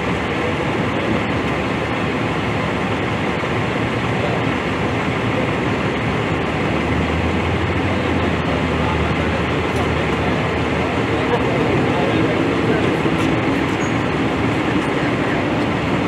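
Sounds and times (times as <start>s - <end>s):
vehicle running: 0.0s - 16.0s.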